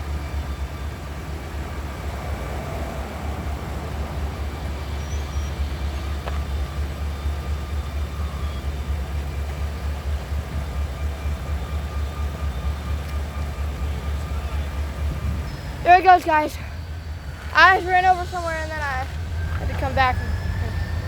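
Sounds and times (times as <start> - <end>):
faint steady whine: 0.0 - 21.0
locomotive engine rumbling: 0.0 - 21.0.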